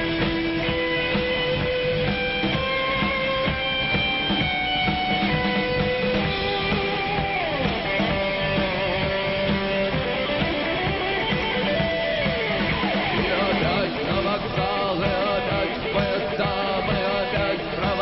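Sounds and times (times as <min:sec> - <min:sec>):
lead electric guitar sliding notes: 0:00.0 - 0:18.0
steady drum beat: 0:00.0 - 0:18.0
strummed guitar: 0:00.0 - 0:18.0.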